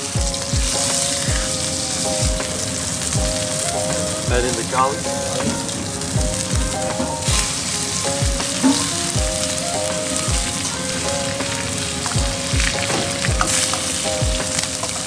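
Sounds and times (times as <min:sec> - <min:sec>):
background music with bass drum: 0:00.0 - 0:15.0
steak sizzling in a frying pan: 0:00.0 - 0:15.0.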